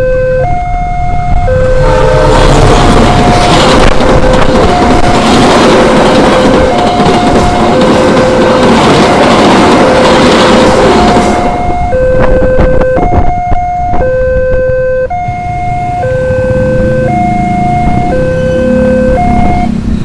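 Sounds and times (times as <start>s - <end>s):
level crossing warning alarm: 0.0s - 19.8s
train rushing past: 0.7s - 13.9s, 15.3s - 20.0s.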